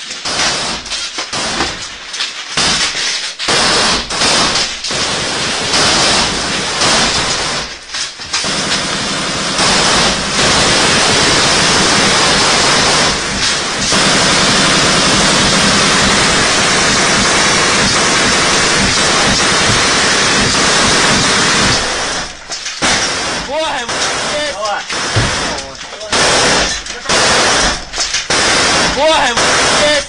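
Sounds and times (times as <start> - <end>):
machine-gun fire: 0.0 - 2.0, 2.6 - 30.0.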